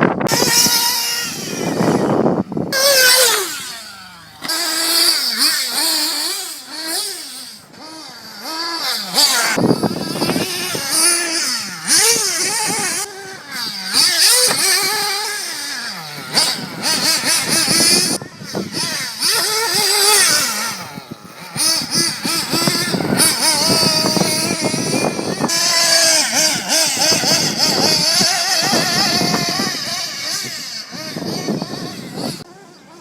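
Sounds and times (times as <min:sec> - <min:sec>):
small engine revving: 0:00.0 - 0:33.0.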